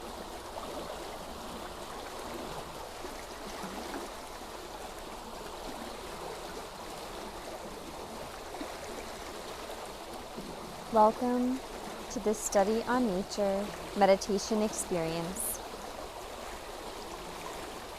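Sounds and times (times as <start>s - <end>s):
stream of running water: 0.0s - 17.9s.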